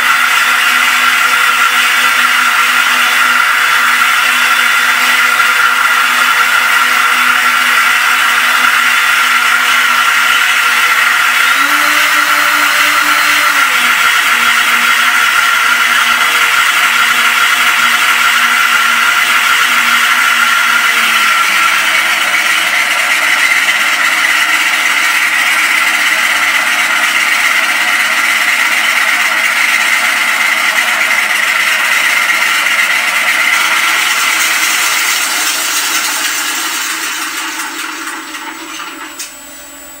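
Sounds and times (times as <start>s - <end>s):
simulated radial engine running: 0.0s - 40.0s.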